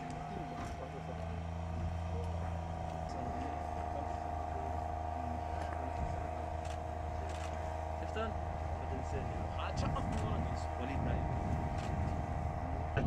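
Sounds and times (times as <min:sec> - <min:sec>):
steady whine: 0:00.0 - 0:13.0
tank engine idling: 0:00.0 - 0:13.0.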